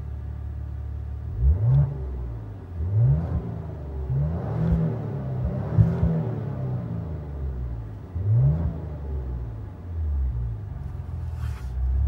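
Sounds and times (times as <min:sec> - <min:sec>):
car engine revving: 0:01.2 - 0:12.0.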